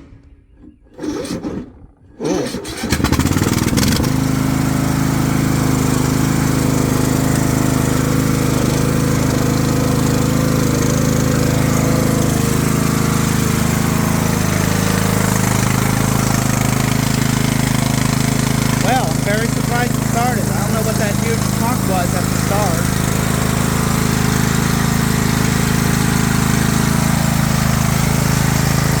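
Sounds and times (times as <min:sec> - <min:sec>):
riding lawnmower engine running: 0:02.6 - 0:29.0.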